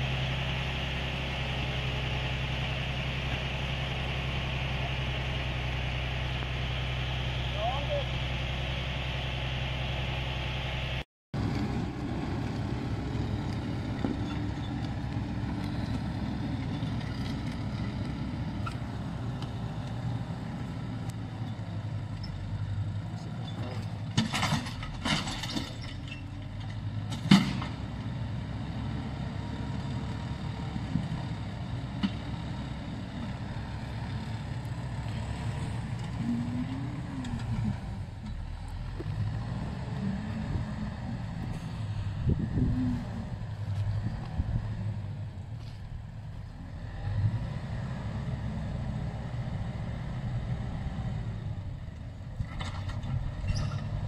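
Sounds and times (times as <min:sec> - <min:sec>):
diesel tractor engine under load: 0:00.0 - 0:54.0.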